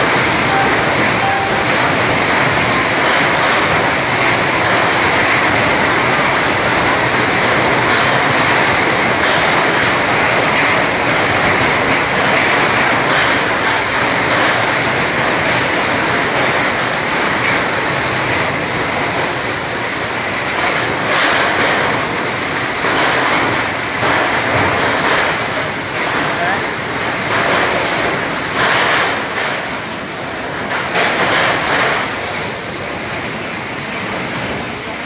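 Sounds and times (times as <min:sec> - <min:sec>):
goods train running through: 0:00.0 - 0:35.0.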